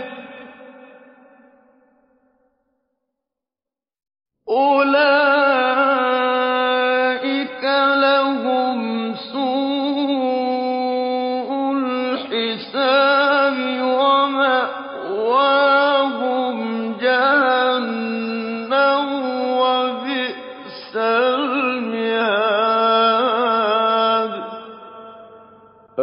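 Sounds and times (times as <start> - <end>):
man chanting melodically: 0.0 - 1.1, 4.5 - 25.5.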